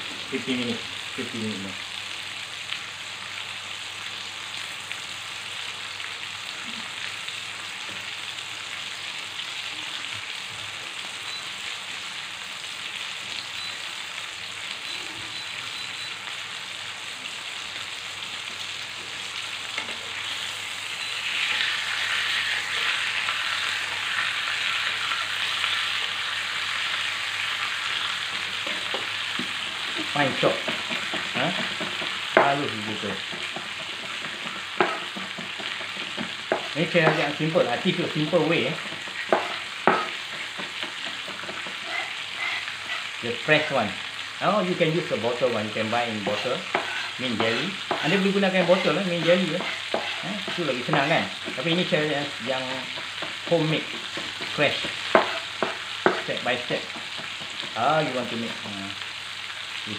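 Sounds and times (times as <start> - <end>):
meat sizzling in hot oil: 0.0 - 59.9.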